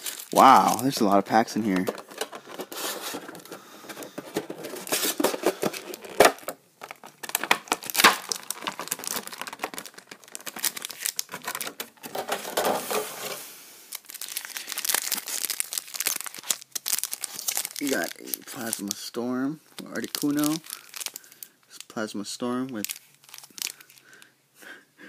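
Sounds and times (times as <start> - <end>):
foil packs crinkling: 0.0 - 19.1, 19.8 - 21.5, 22.8 - 24.3.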